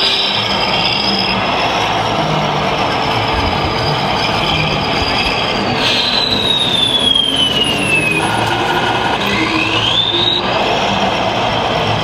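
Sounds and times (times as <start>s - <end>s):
crowded hall din: 0.0s - 12.0s.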